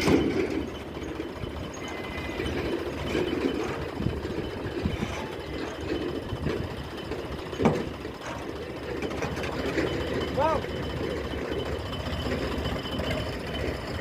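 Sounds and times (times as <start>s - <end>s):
tractor diesel engine knocking: 0.0s - 14.0s.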